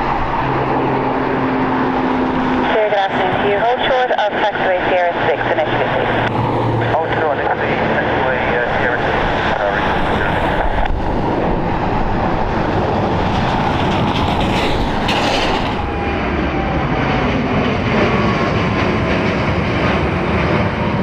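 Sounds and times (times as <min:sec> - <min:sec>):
airliner jet engines rumbling: 0:00.0 - 0:21.0.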